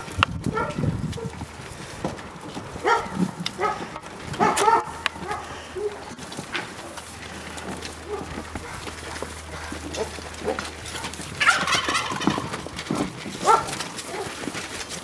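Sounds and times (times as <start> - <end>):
goats and sheep bleating: 1.8 - 15.0.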